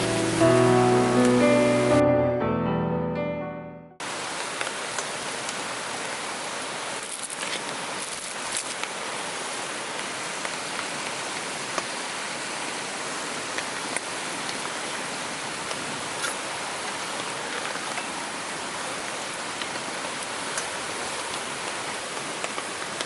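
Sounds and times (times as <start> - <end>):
heavy rain: 0.0 - 2.2, 4.0 - 23.0.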